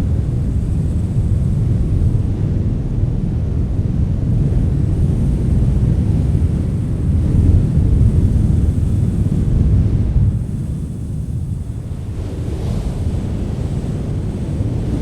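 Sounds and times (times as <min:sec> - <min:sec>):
wind blowing: 0:00.0 - 0:15.0.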